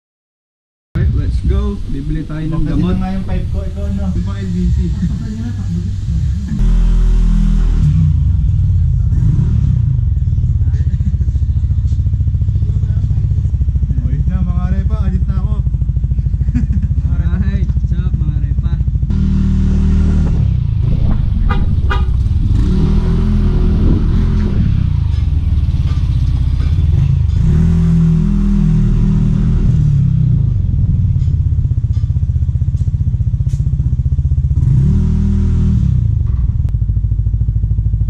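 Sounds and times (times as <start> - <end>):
motor scooter engine: 1.6 - 38.0.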